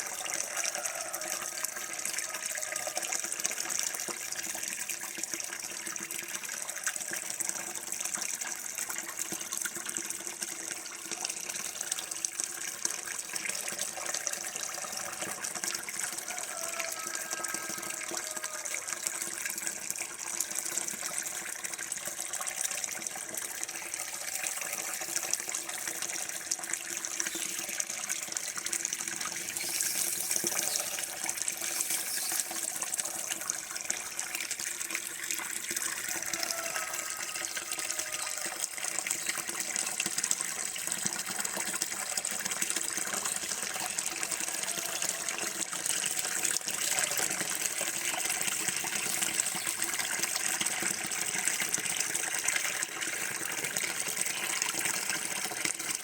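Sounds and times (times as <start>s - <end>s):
water running from a tap: 0.0s - 56.0s.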